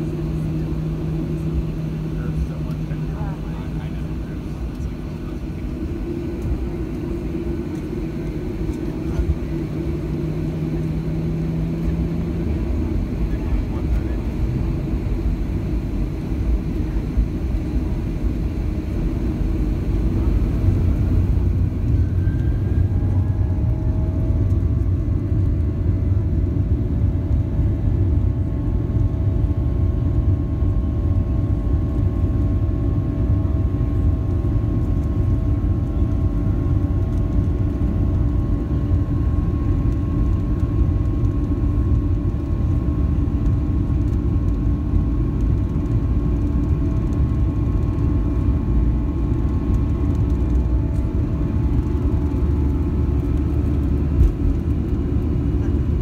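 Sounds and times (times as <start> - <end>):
heavy low rumble: 0.0 - 56.0.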